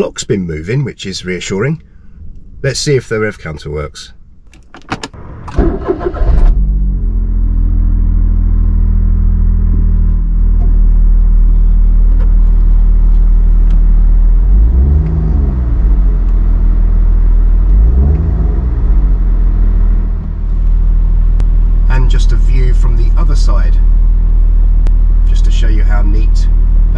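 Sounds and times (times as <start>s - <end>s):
car engine starting and idling: 0.0s - 26.9s
engine throttle blips: 5.2s - 26.9s.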